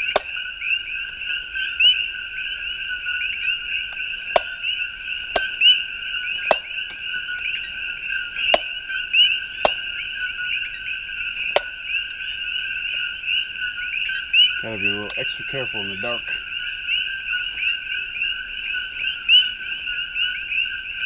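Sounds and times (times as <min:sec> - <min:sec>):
frogs chirping: 0:00.0 - 0:21.0.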